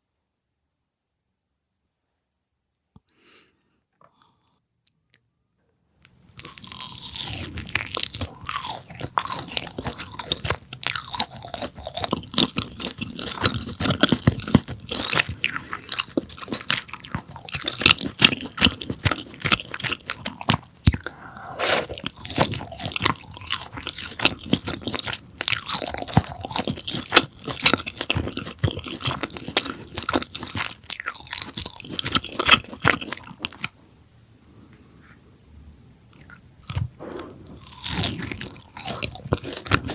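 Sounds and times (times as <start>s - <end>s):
crunching and chewing crispy food: 6.3s - 34.6s, 36.1s - 39.9s.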